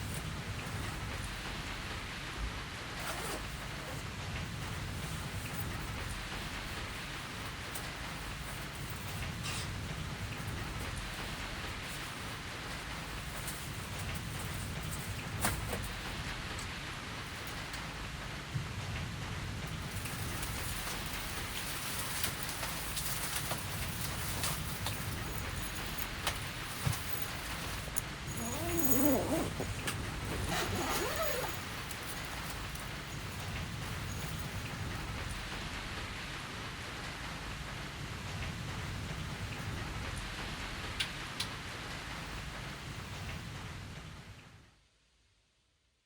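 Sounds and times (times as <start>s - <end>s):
steady rain falling: 0.0s - 44.7s.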